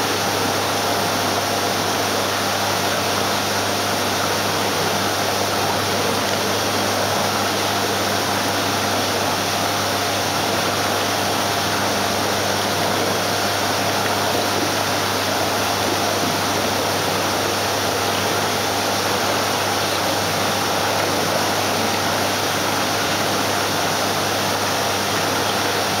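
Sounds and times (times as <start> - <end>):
aquarium pumps humming: 0.0 - 26.0.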